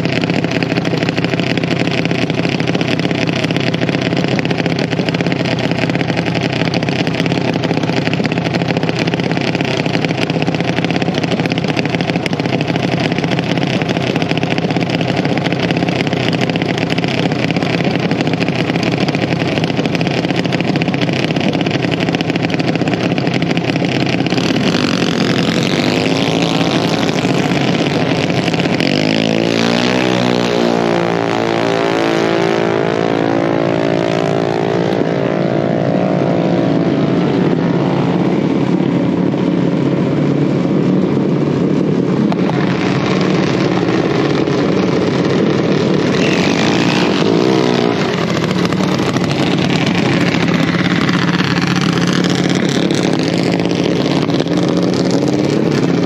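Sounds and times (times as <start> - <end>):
dragster engines running: 0.0 - 56.0.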